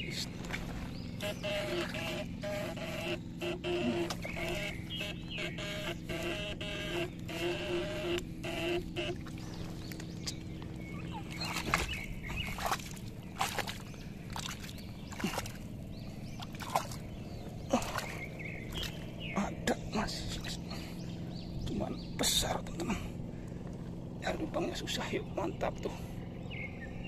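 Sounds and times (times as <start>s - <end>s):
muddy water splashing: 0.0s - 26.9s
electrical hum: 0.0s - 27.0s.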